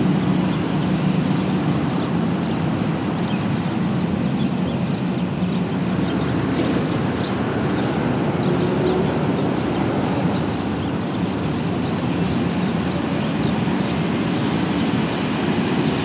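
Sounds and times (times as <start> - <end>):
road traffic hum: 0.0 - 16.0
small birds chirping faintly: 0.0 - 16.0.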